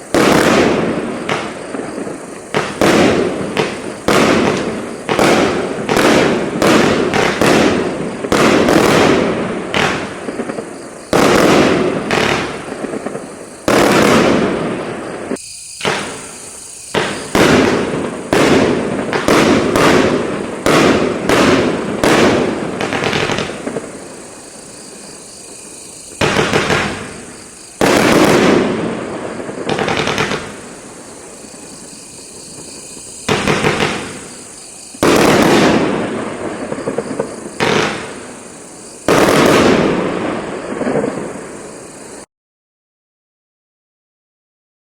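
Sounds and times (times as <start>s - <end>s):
firework bangs: 0.0s - 42.3s.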